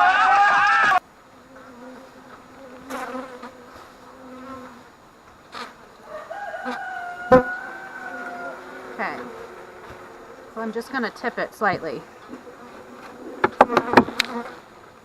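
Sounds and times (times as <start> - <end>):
bees humming: 0.0 - 15.0
bee flying near: 1.3 - 15.0.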